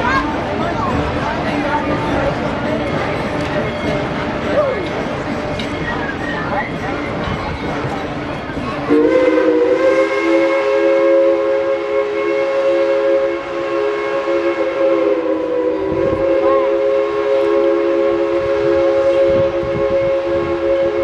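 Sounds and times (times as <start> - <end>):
steam locomotive chime whistle: 2.0 - 21.0.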